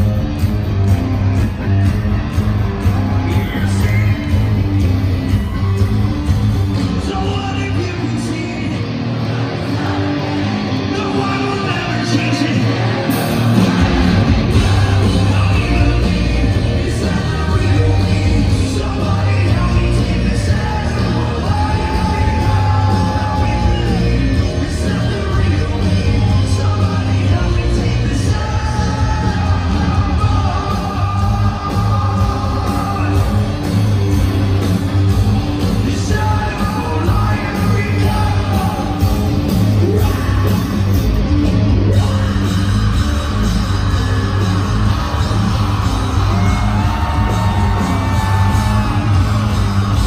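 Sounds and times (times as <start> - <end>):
heavy bass: 0.0 - 50.0
live hard rock band: 0.0 - 50.0
voices singing and yelling: 0.0 - 50.0.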